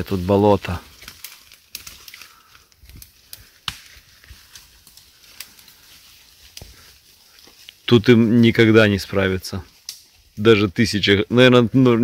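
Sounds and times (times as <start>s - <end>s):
twigs snapping and brush rustling: 0.0s - 10.6s.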